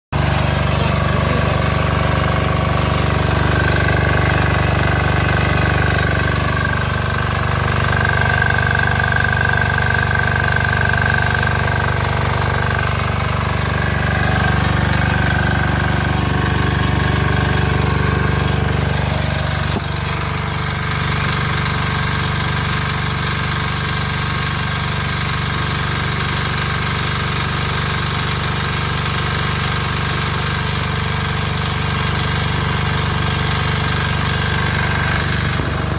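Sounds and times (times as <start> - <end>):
diesel generator running: 0.0 - 35.9.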